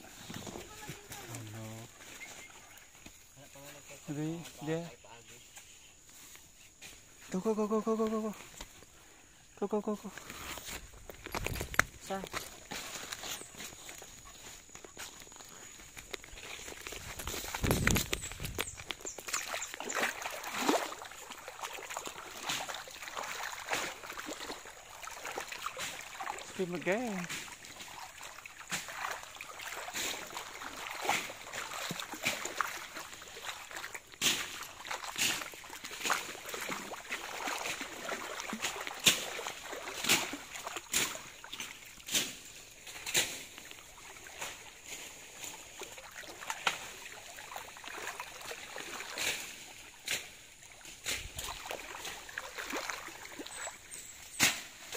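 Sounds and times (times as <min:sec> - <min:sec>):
splashing steps in a stream: 0:00.0 - 0:04.8, 0:06.9 - 0:54.9
stream trickling: 0:00.0 - 0:54.9.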